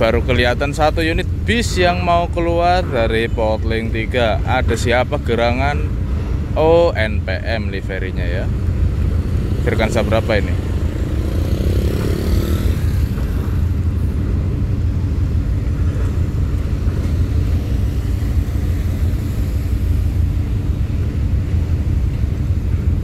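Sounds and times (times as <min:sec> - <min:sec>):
heavy diesel engines humming: 0:00.0 - 0:23.0.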